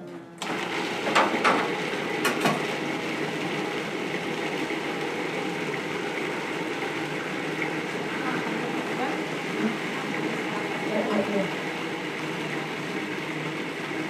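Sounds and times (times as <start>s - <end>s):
food processor grinding: 0.4s - 14.0s.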